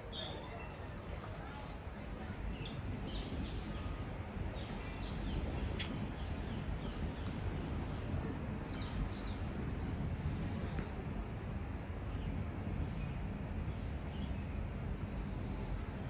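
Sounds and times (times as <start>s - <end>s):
distant city traffic rumble: 0.0s - 16.0s.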